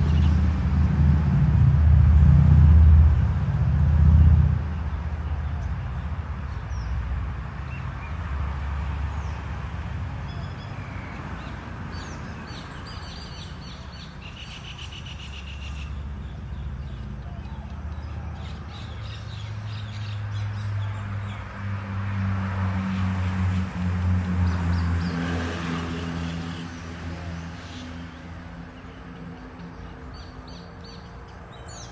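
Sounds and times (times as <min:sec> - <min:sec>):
vehicle engine rumble: 0:00.0 - 0:31.9.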